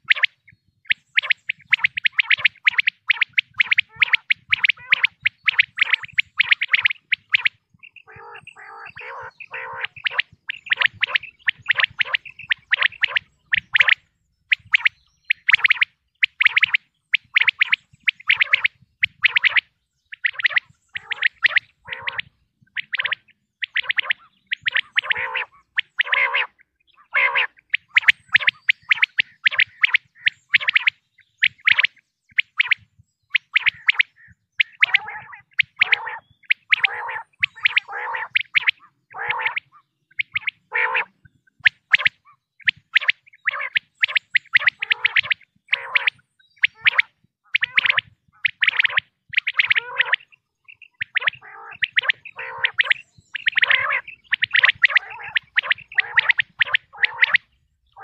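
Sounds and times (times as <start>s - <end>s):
quail calling: 0.0s - 32.8s, 33.4s - 58.0s.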